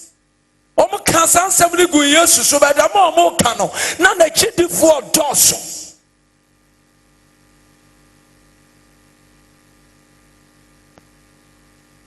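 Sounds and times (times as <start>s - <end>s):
faint hum and hiss: 0.0s - 12.0s.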